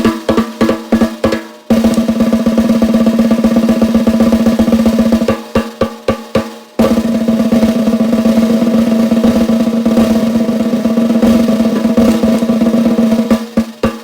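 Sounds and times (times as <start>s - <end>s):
snare drum roll: 0.0s - 14.0s.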